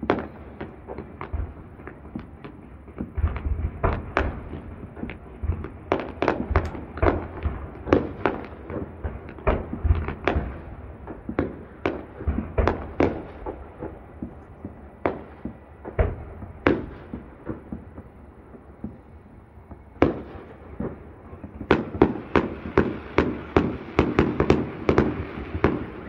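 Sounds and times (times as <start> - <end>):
fireworks bursting with bangs: 0.0 - 26.0.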